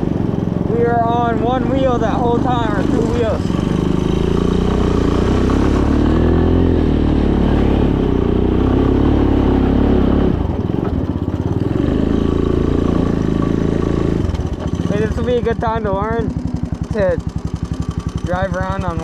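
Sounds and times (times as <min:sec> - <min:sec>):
small engine under throttle: 0:00.0 - 0:19.0.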